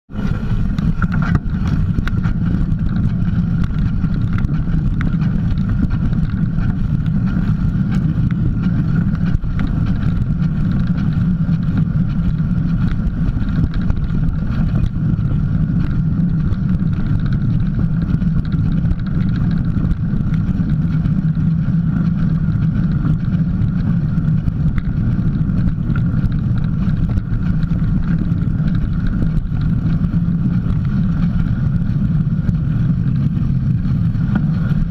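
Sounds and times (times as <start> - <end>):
bike tyre rumbling on dirt: 0.1 - 34.9
rushing wind noise: 0.1 - 34.9.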